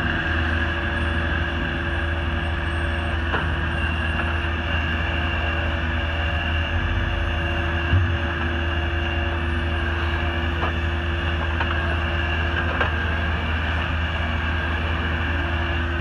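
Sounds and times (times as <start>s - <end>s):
constant whine: 0.0s - 16.0s
log loader engine drone: 0.0s - 16.0s.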